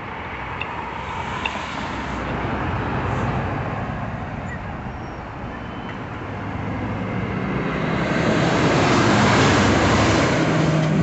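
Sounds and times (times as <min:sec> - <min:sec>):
vehicle passing close by: 0:00.4 - 0:05.4, 0:06.2 - 0:11.0.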